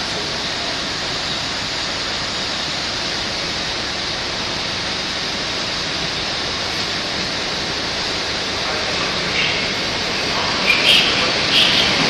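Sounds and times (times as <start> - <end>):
train coaches rolling past: 0.0 - 12.0.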